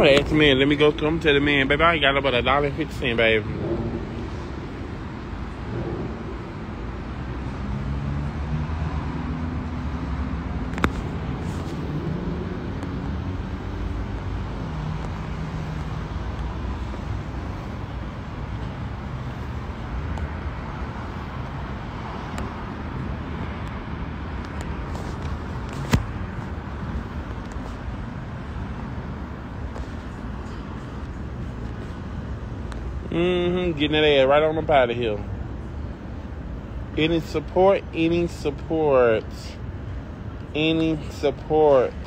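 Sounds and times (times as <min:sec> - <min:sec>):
vehicle noise rumble: 0:00.0 - 0:42.0.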